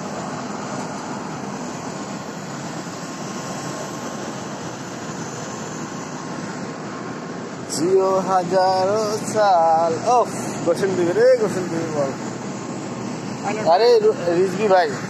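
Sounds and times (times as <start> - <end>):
turboprop engine running: 0.0 - 15.0.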